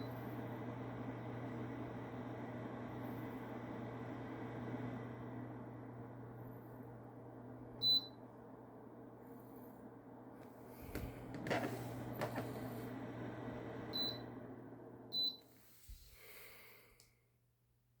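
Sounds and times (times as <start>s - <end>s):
fan humming with rushing air: 0.0s - 17.0s.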